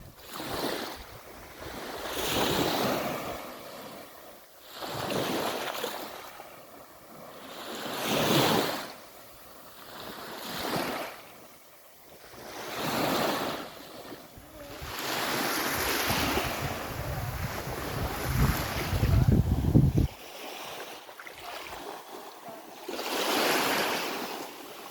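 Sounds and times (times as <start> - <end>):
sea waves washing onto beach: 0.0 - 24.9.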